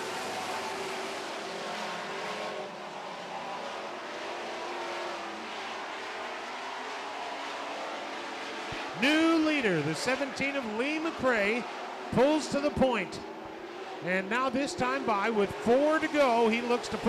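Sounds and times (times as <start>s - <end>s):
racing truck engines droning: 0.0s - 17.0s.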